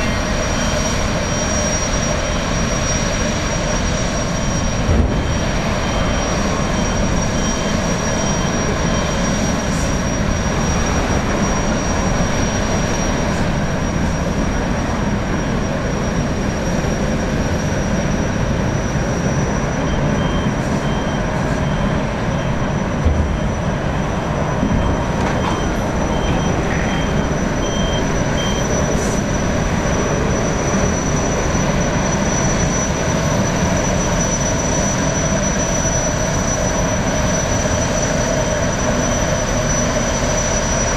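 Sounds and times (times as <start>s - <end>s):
gas turbines rumbling and whining: 0.0s - 40.9s.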